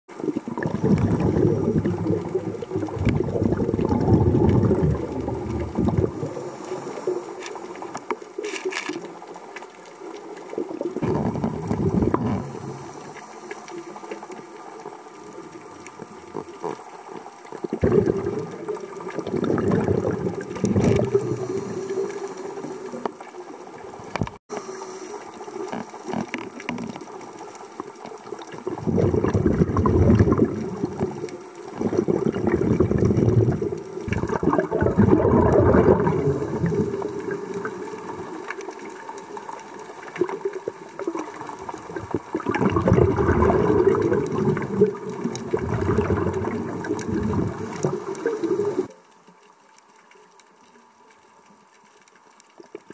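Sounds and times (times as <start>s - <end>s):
exhaled bubbles underwater: 0.1s - 49.0s.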